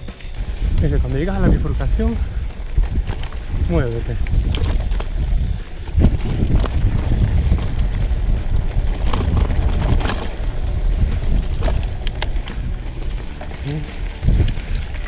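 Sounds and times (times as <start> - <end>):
bike clicks and rattles: 0.0 - 15.0
bike tyres rumbling on trail: 0.0 - 15.0
wind on microphone: 0.0 - 15.0.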